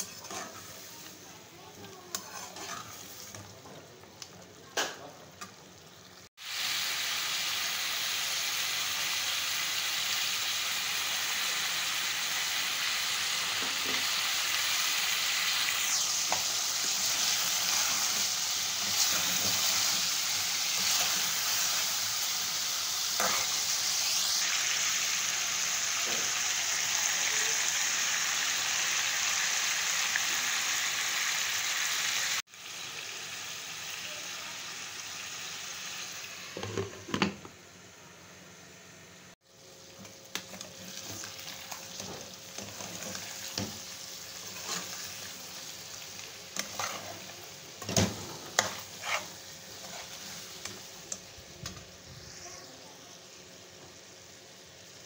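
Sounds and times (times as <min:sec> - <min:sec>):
meat sizzling in hot oil: 0:00.0 - 0:04.4, 0:05.5 - 0:36.8, 0:39.4 - 0:55.0.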